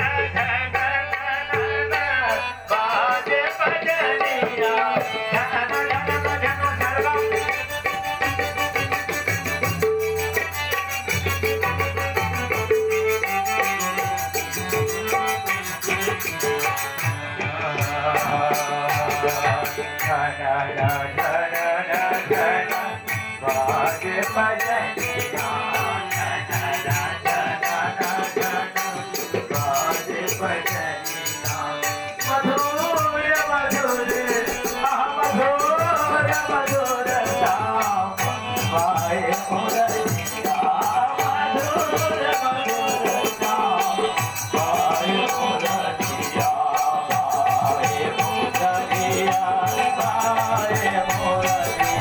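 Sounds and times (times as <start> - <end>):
jingling percussion beat: 0.0 - 52.0
man singing through pa system: 0.0 - 52.0.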